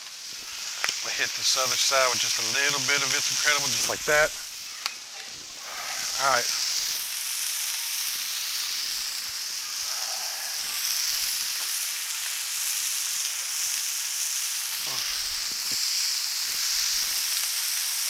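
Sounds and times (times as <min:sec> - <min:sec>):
patties sizzling on griddle: 0:00.0 - 0:18.0.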